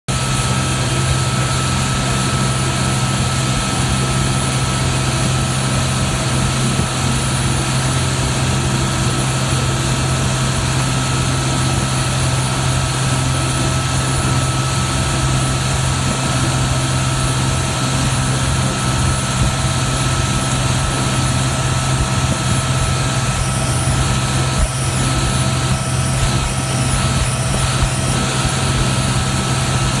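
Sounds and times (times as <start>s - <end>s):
boat engines droning: 0.1s - 30.0s
water rushing: 0.1s - 30.0s
wind: 0.1s - 30.0s.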